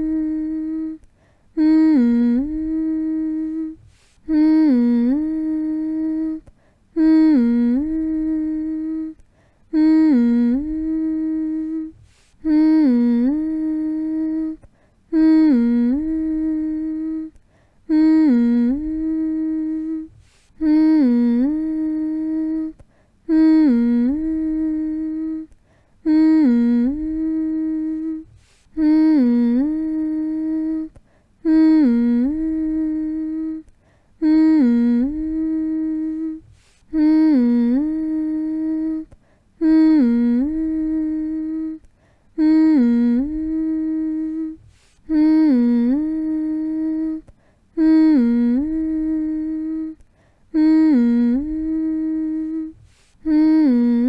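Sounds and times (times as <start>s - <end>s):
person humming a lullaby: 0.0s - 54.0s.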